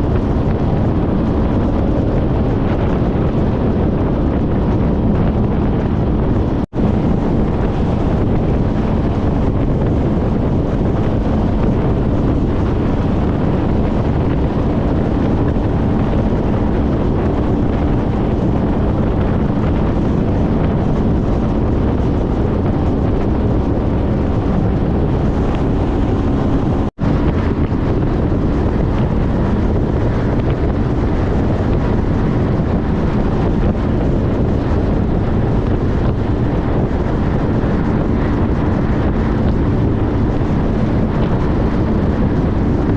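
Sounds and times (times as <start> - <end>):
motorcycle engine and road drone: 0.0 - 42.9
wind rushing on microphone: 0.0 - 42.9.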